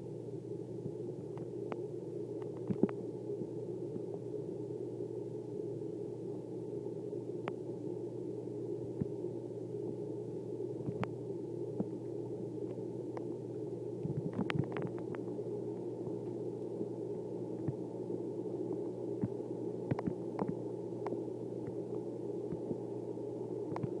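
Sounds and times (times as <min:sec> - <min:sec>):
aquarium pump humming: 0:00.0 - 0:24.0.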